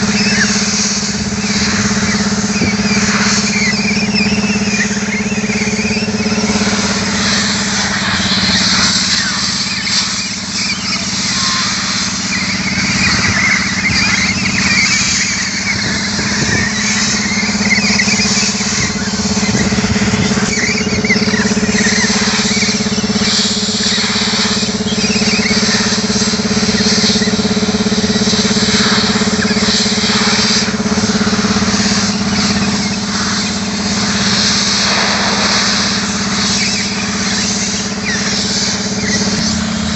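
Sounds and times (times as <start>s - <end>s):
compressed air hissing from hose: 0.0s - 39.9s
steady engine drone: 0.0s - 39.9s.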